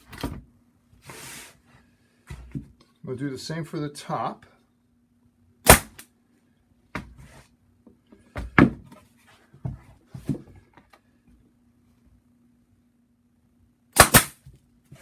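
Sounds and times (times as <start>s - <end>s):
faint steady hum: 0.1s - 15.0s.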